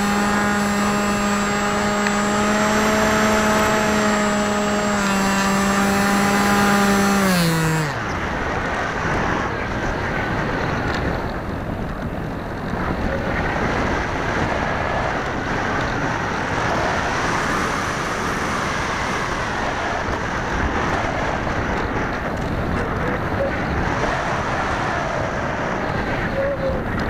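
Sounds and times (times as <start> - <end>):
electric motor and propeller whine: 0.0 - 27.0
wind on microphone: 0.0 - 27.0.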